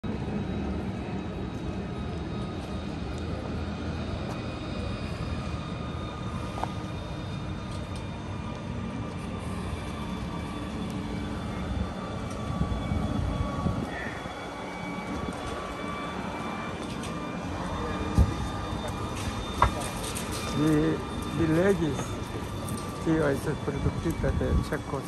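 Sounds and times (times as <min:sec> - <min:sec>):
city street ambience: 0:00.0 - 0:25.0
low engine drone: 0:00.0 - 0:25.0
faint whining tones: 0:00.1 - 0:25.0.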